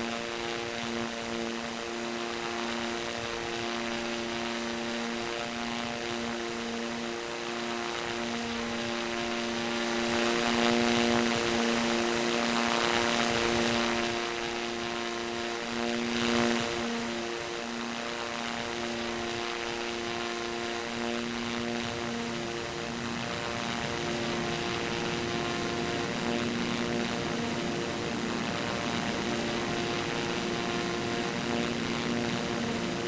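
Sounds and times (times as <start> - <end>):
helicopter engines and rotors droning: 0.0 - 33.0.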